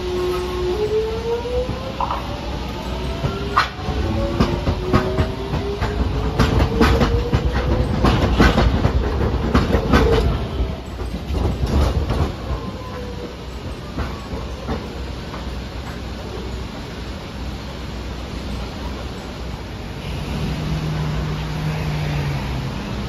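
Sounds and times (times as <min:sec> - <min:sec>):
streetcar motor whine: 0:00.0 - 0:23.0
streetcar wheels clacking on track: 0:00.0 - 0:23.0.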